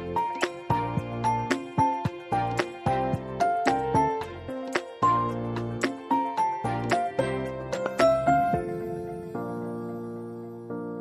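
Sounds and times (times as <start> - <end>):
gentle instrumental melody: 0.0 - 11.0.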